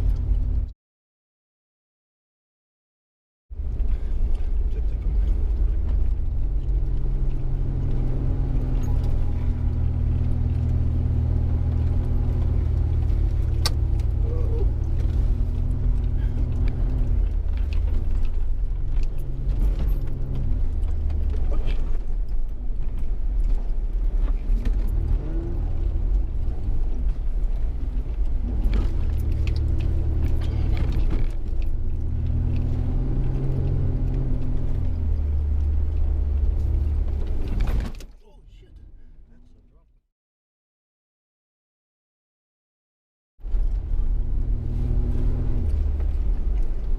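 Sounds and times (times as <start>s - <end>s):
off-road vehicle engine revving: 3.7s - 39.4s, 43.4s - 46.9s.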